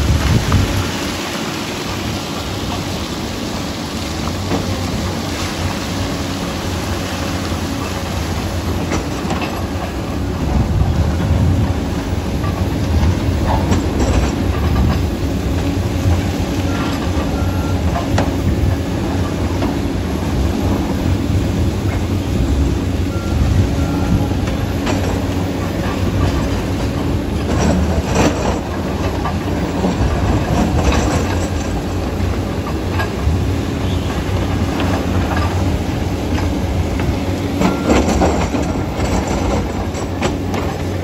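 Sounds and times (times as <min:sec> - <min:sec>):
clatter of steel tracks: 0:00.0 - 0:41.0
diesel engine under load: 0:00.0 - 0:41.0.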